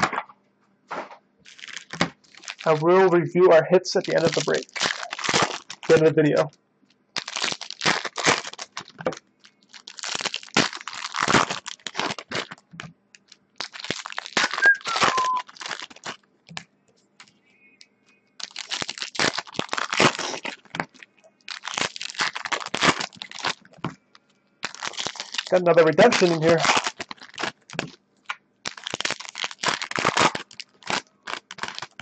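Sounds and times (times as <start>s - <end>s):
foil wrappers crinkling: 1.4s - 3.0s, 3.8s - 6.6s, 7.2s - 16.2s, 18.4s - 32.0s.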